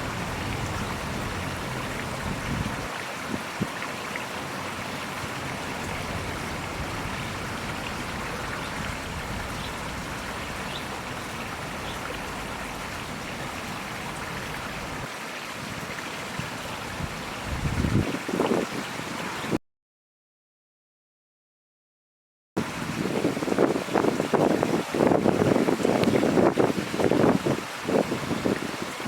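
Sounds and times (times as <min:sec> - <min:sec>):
stream water flowing: 0:00.0 - 0:19.6, 0:22.6 - 0:29.0.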